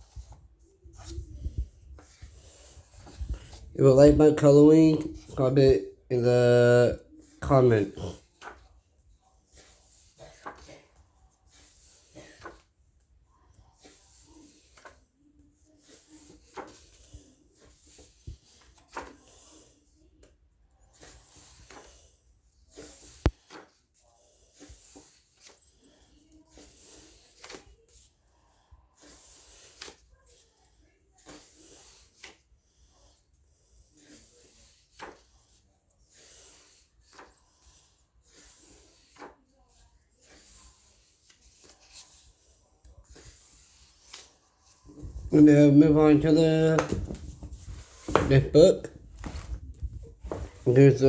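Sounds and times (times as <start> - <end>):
paper pages rustling: 0.0 - 5.8, 7.0 - 12.7, 13.4 - 19.7, 20.9 - 28.1, 33.9 - 51.0.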